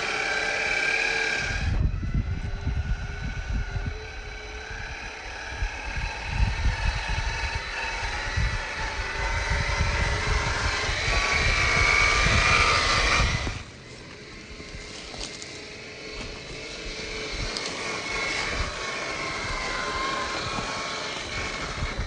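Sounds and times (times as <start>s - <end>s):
toy truck motor and gear whine: 0.0s - 22.0s
wind buffeting microphone: 0.0s - 22.0s.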